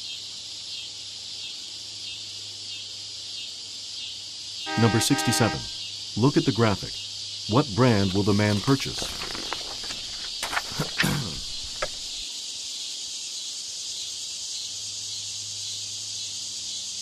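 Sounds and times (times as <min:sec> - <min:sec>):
high-pitched chirring hiss: 0:00.0 - 0:17.0.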